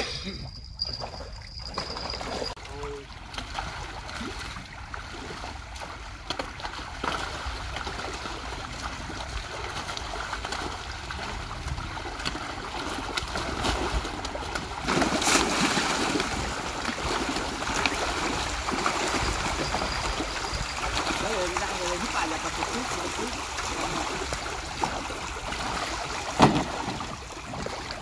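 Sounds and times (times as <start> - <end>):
water lapping against boat: 0.6 - 28.0.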